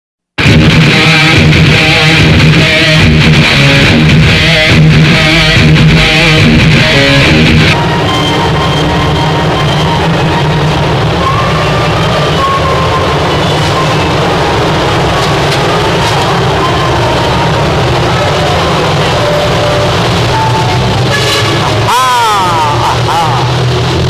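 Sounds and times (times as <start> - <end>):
electric guitar music: 0.4 - 24.0
steady noise: 0.4 - 24.0.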